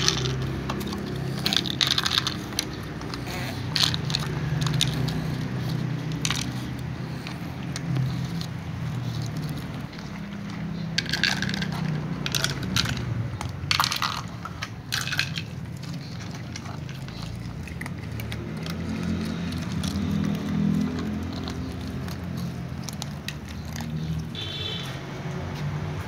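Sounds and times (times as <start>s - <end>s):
cats crunching dry kibble: 0.0s - 26.0s.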